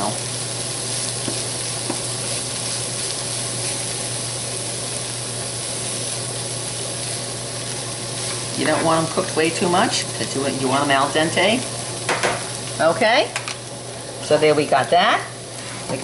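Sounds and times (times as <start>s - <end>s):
food sizzling in oil: 0.0s - 16.0s
steady low hum: 0.0s - 16.0s.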